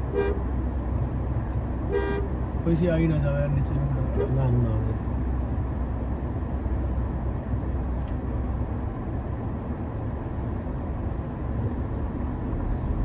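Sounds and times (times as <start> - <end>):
low engine: 0.0 - 13.0
road noise: 0.0 - 13.0.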